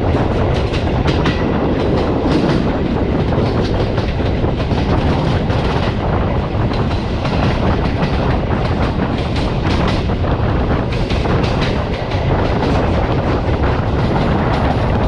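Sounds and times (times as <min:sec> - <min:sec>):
rail clicks and knocks: 0:00.0 - 0:15.0
train wheels rumbling on rail: 0:00.0 - 0:15.0.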